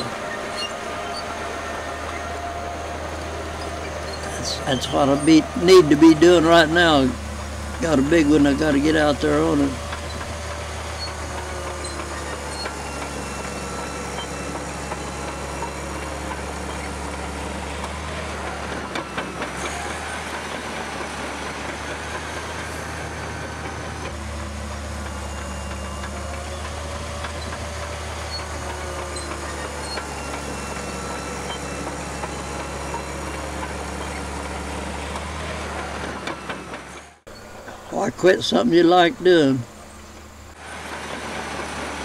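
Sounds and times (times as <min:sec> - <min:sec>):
bulldozer diesel engine running: 0:00.0 - 0:42.0.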